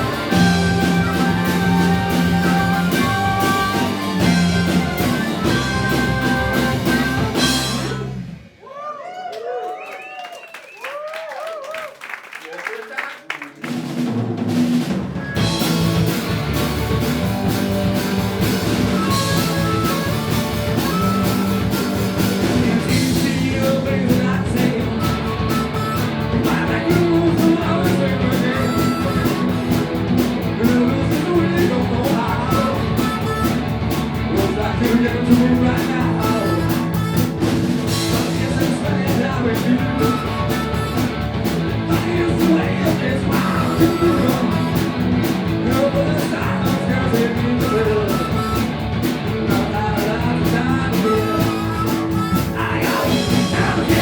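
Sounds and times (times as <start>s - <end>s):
live rock band playing: 0.0s - 8.6s, 13.8s - 54.0s.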